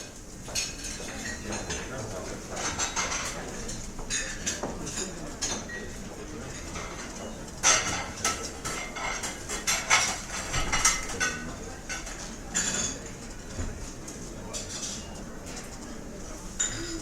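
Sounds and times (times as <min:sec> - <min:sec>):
cutlery and dishes clinking: 0:00.4 - 0:17.0.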